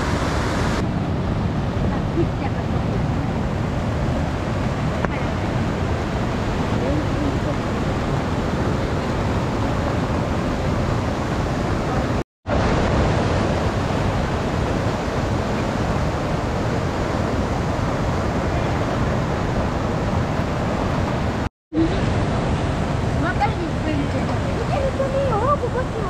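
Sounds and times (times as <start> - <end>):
fast river rushing: 0.0 - 26.0.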